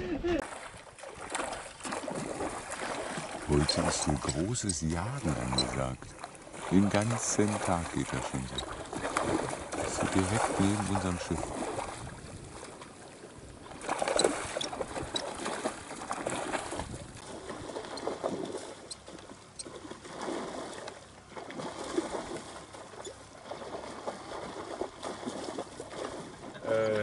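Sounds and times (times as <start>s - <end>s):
water splashing and churning: 0.0s - 27.0s.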